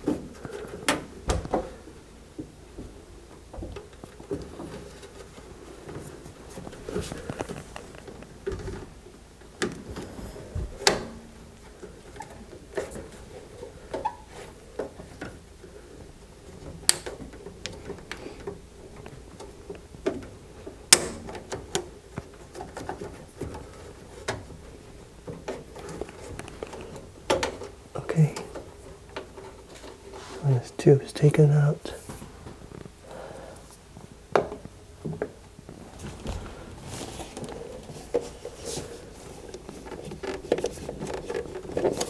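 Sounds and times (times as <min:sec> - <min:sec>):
handling knocks and clicks: 0:00.0 - 0:15.7, 0:16.4 - 0:30.2, 0:33.9 - 0:42.0.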